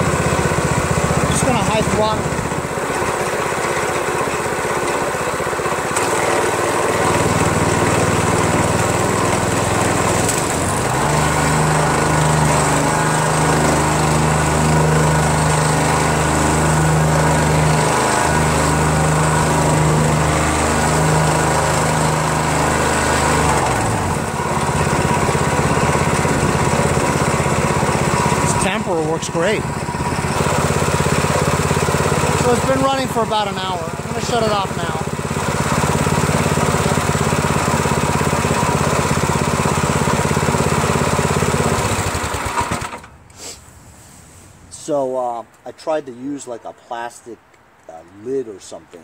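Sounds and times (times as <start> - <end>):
small engine revving: 0.0 - 43.6.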